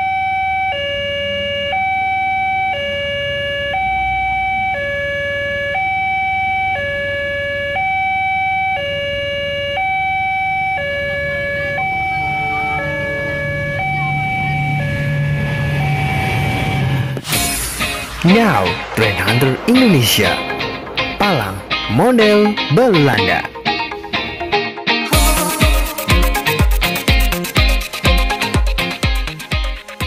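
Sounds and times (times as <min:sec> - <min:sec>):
two-tone warning siren: 0:00.0 - 0:22.6, 0:25.1 - 0:28.6.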